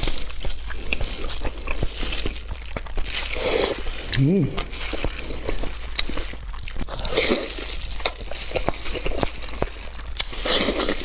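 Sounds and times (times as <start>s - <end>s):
wet chewing and mouth sounds: 0.0s - 11.0s.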